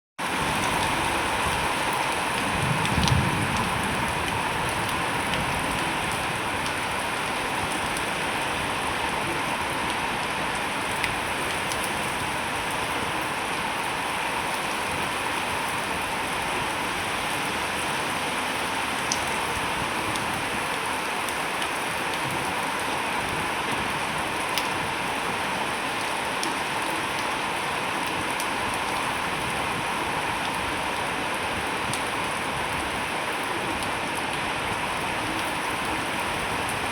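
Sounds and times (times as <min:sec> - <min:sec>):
steady rain falling: 0:00.2 - 0:36.9.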